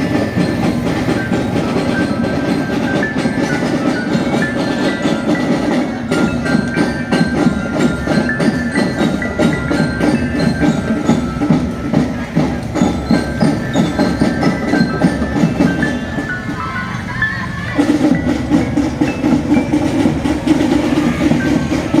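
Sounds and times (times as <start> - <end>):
mallet bells tune: 0.0 - 22.0
marching drums: 0.0 - 22.0.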